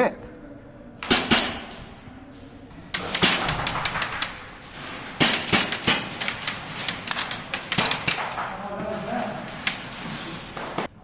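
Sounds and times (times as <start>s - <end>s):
airsoft gunfire: 1.0s - 10.9s.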